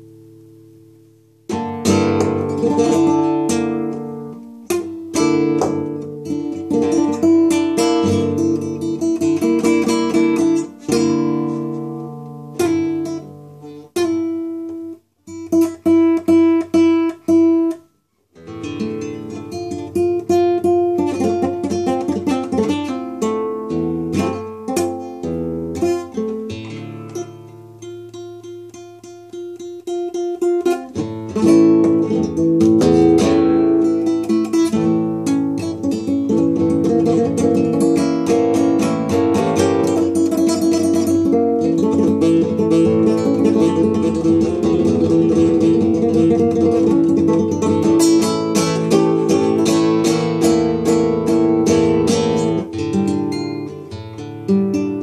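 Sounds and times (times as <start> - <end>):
fingerpicked acoustic guitar: 0.0 - 55.0.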